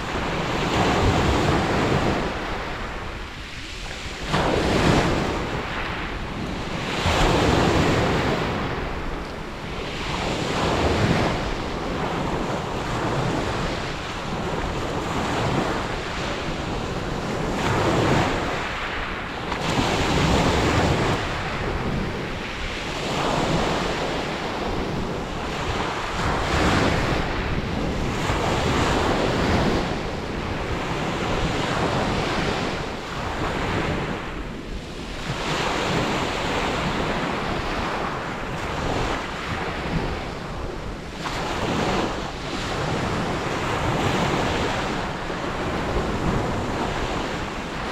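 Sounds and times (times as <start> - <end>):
surf breaking on beach: 0.0 - 47.9
wind on microphone: 0.0 - 47.9.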